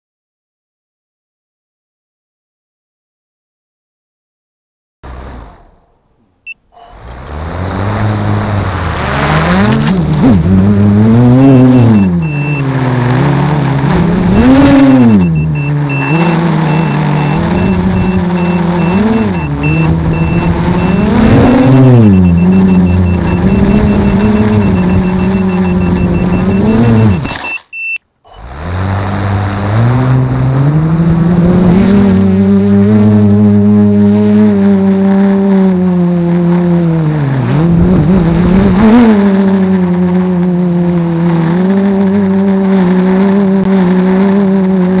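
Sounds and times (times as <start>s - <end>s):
drone motors whining: 5.0s - 45.0s.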